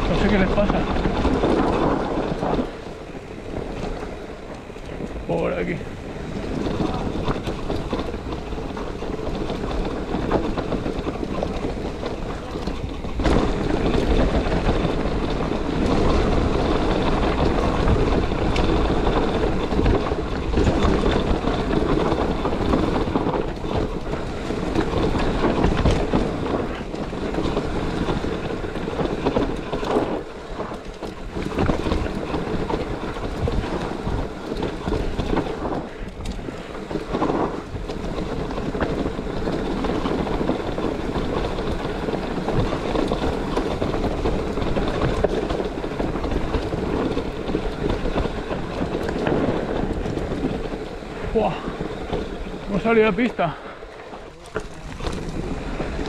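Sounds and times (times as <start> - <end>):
bike knocking and rattling: 0.0 - 56.0
bike tyre noise: 0.0 - 56.0
wind rush on microphone: 0.0 - 56.0.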